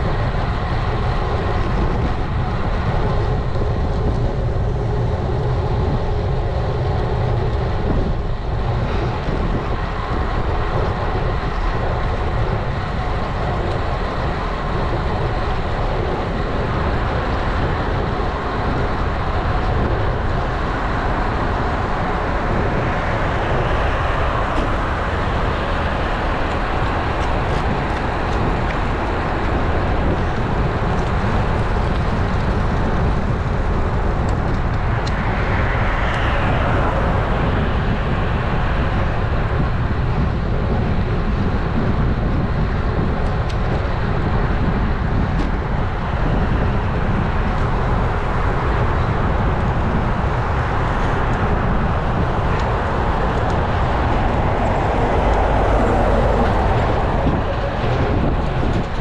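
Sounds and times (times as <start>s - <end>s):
road traffic: 0.0s - 59.0s
wind rush on microphone: 0.0s - 59.0s.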